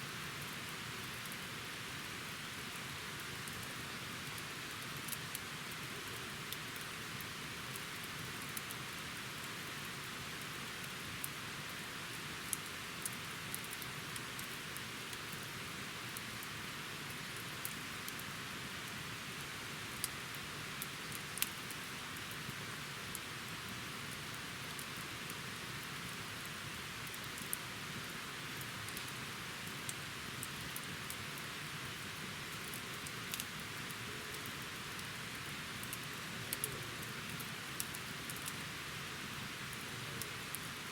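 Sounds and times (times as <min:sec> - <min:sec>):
campfire crackling and hissing: 0:00.0 - 0:40.9.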